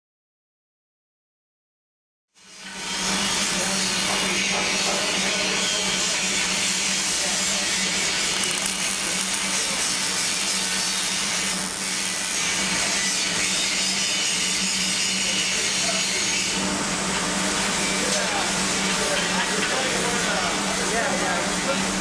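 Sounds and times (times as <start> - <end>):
welding hiss and crackle: 2.4 - 22.0.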